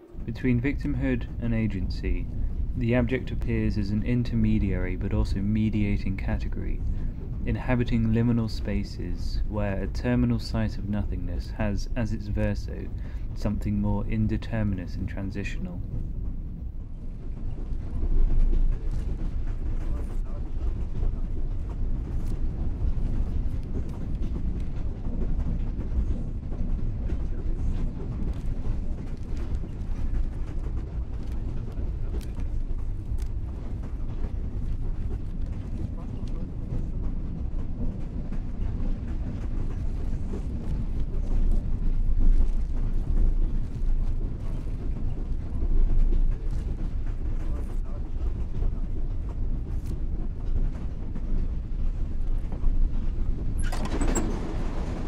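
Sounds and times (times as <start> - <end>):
train carriage rumbling on track: 0.0 - 55.0.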